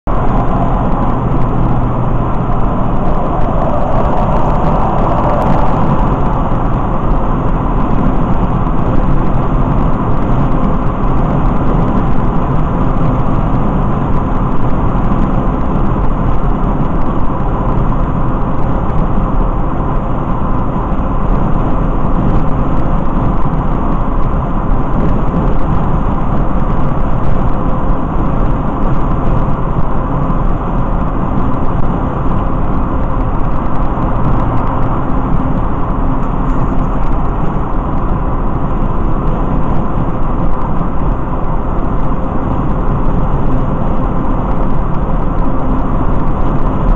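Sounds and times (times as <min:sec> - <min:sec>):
car road and engine noise: 0:00.0 - 0:46.9.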